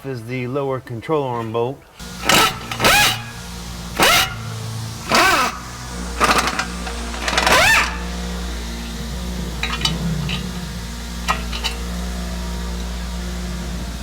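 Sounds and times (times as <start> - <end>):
impact wrench whirring: 1.9 - 14.0
low hum: 2.0 - 14.0.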